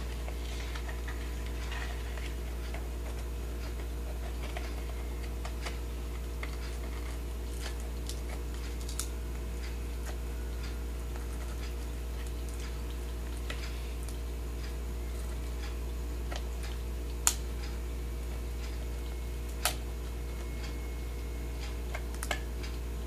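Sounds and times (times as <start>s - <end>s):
low electrical hum: 0.0s - 23.0s
crab eating chips clicks: 0.2s - 17.5s, 21.7s - 22.8s.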